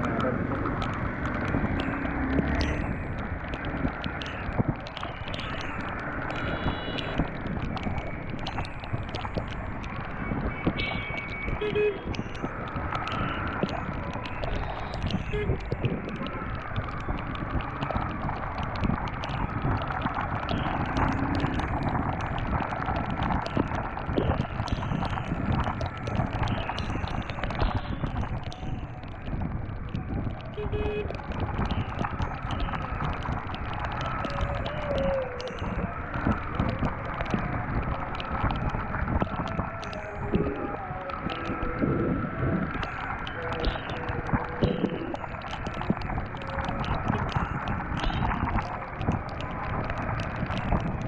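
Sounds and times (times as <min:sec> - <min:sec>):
wind buffeting on microphone: 0:00.0 - 0:51.0.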